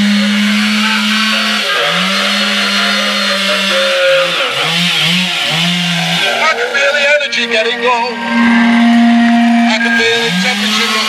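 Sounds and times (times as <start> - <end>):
chainsaw cutting: 0.0 - 11.0.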